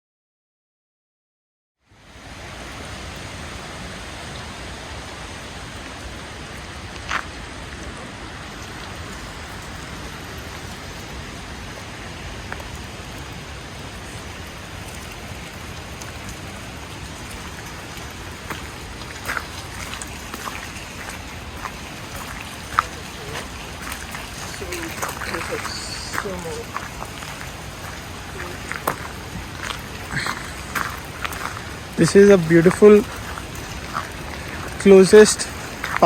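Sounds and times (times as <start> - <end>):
flowing water rushing: 1.8 - 36.0.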